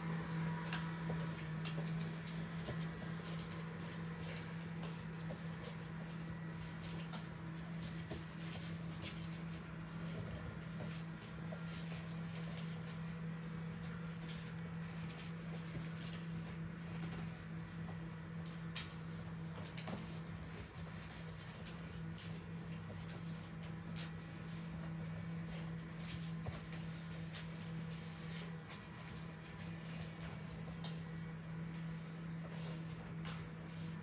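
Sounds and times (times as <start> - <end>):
steady low hum: 0.0 - 34.0
paper rustling and crinkling: 0.6 - 34.0.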